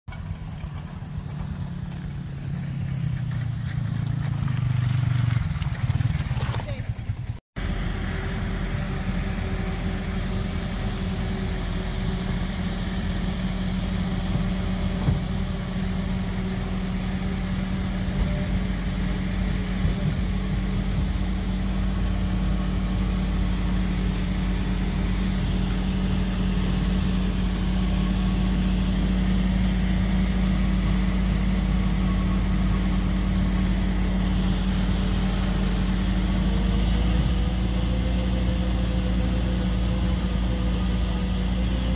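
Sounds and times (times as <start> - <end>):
vehicle engine running: 0.1 - 41.9.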